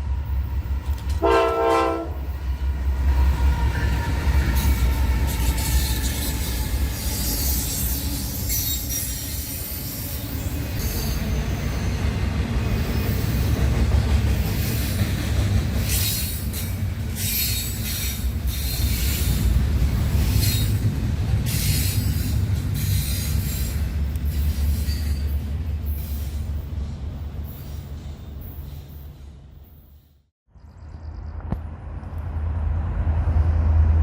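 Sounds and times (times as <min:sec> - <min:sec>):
freight train rumbling on rails: 0:00.0 - 0:30.2, 0:30.9 - 0:34.0.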